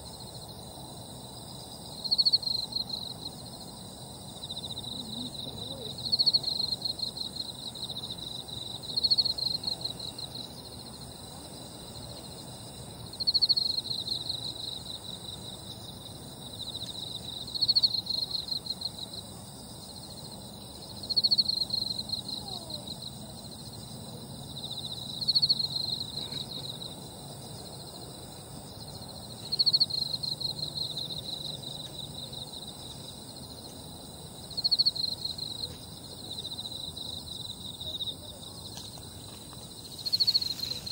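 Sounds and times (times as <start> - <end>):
insect chirping in pulsed trills: 0.0 - 40.9.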